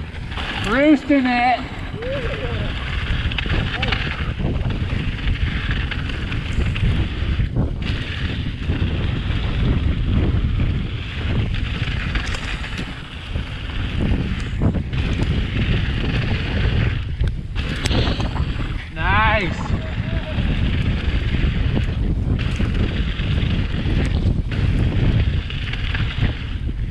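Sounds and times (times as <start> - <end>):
bike tyres rolling on dirt: 0.0 - 26.9
wind buffeting microphone: 0.0 - 26.9.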